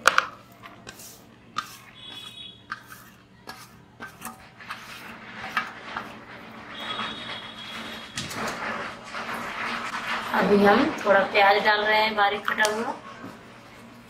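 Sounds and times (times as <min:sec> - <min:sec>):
shredded cabbage rustling: 0:00.3 - 0:12.1.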